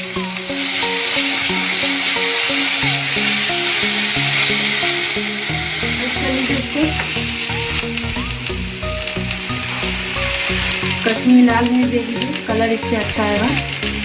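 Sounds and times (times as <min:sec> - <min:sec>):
soft background music: 0:00.0 - 0:14.0
spices sizzling in hot oil: 0:00.0 - 0:14.0.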